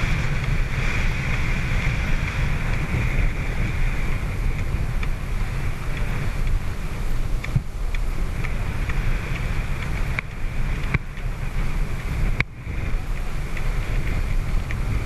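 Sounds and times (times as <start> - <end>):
boat rumble: 0.0 - 15.0
water noise: 0.0 - 15.0
wind buffeting microphone: 0.0 - 15.0.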